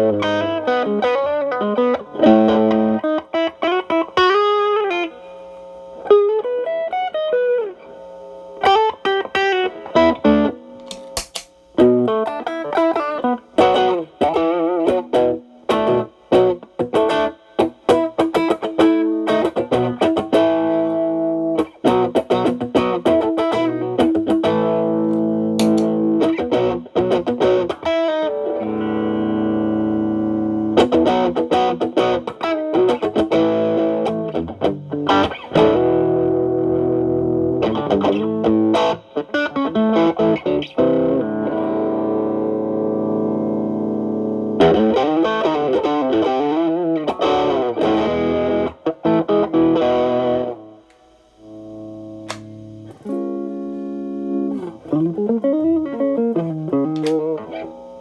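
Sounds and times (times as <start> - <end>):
overdriven electric guitar playing: 0.0 - 58.0.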